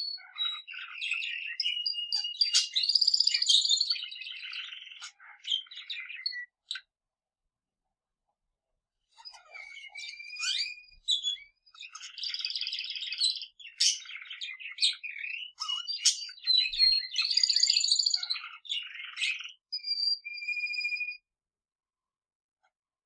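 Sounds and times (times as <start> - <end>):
canary singing trills: 0.0 - 6.9, 9.1 - 21.2.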